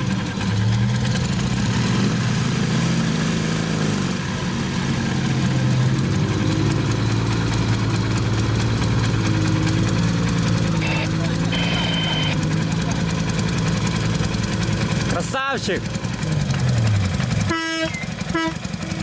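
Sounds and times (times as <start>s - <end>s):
vehicle engines running at low revs: 0.0s - 19.0s.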